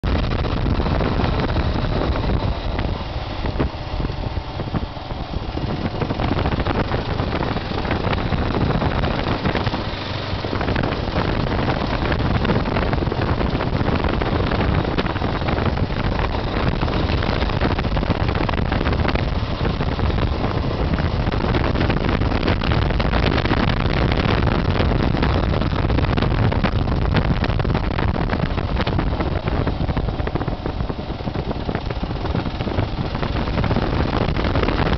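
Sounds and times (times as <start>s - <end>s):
motorcycle engine running: 0.0s - 34.9s
wind buffeting microphone: 0.0s - 34.9s.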